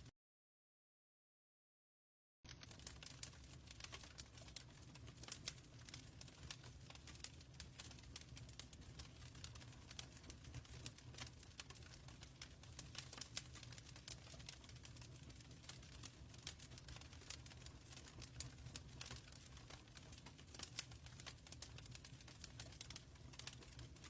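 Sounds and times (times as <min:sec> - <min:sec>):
wood fire crackling: 0:02.5 - 0:24.0.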